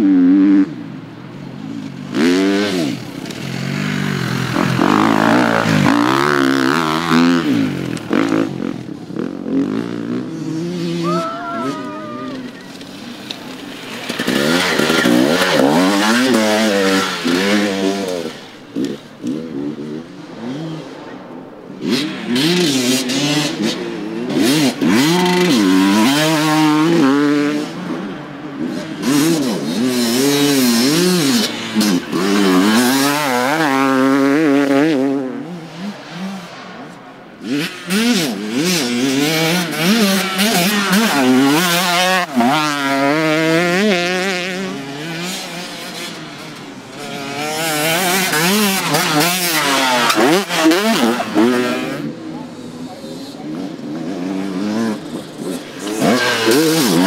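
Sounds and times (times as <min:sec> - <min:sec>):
motorcycles revving past: 0:00.0 - 0:57.0.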